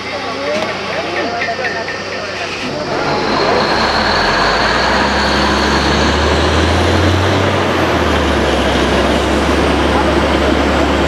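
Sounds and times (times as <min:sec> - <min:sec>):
drilling rig diesel engine: 0:00.0 - 0:11.0.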